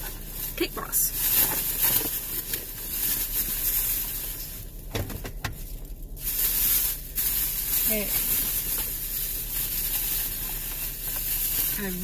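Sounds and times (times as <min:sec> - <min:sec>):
plastic rustling and crinkling: 0:00.0 - 0:12.0.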